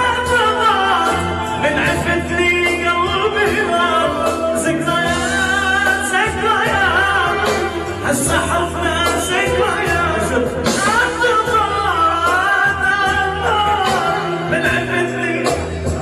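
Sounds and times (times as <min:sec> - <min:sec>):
instrumental accompaniment with bass: 0:00.0 - 0:16.0.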